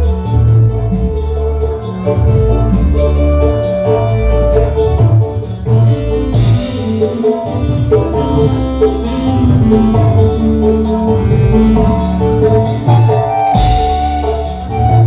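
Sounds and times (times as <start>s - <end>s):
hand drums: 0.0s - 15.0s
live band music over loudspeakers: 0.0s - 15.0s.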